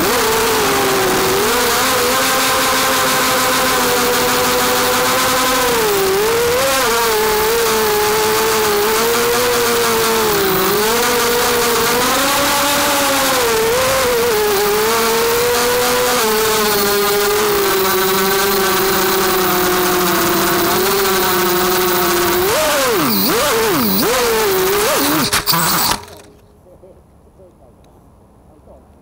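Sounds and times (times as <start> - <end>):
quadcopter motors whining: 0.0 - 26.4.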